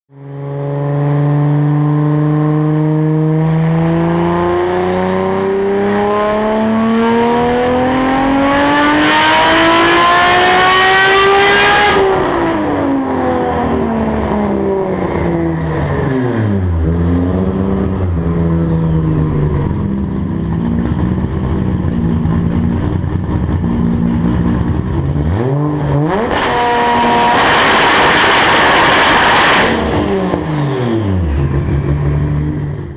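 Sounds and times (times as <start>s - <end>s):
car engine revving on a dyno: 0.1s - 32.9s.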